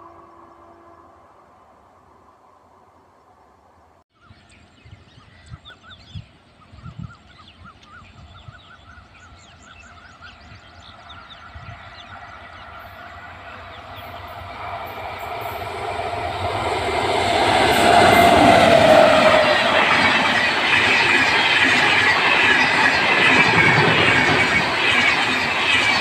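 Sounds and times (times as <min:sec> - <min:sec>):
approaching train rumble: 0:00.0 - 0:04.0, 0:08.2 - 0:26.0.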